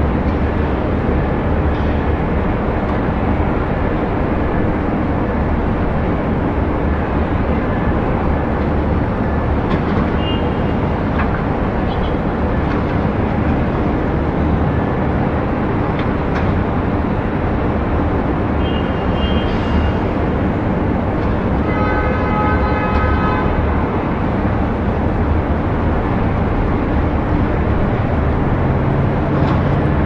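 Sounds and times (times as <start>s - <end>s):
distant traffic rumble: 0.0s - 30.0s.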